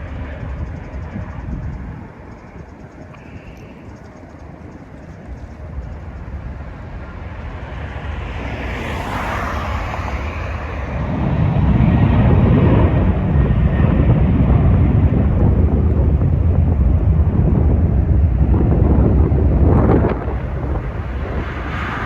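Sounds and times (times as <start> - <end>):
jet airliner passing: 0.0 - 22.0.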